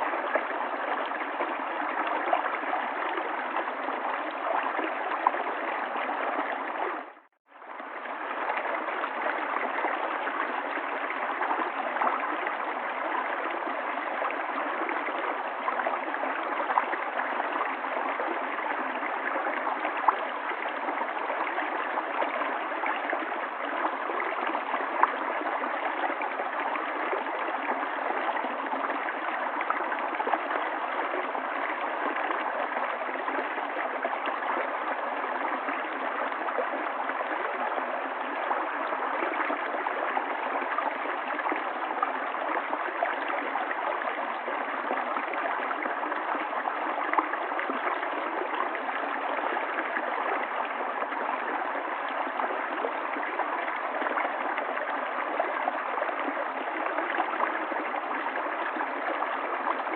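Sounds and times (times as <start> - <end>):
river water gurgling over stones: 0.0 - 59.9.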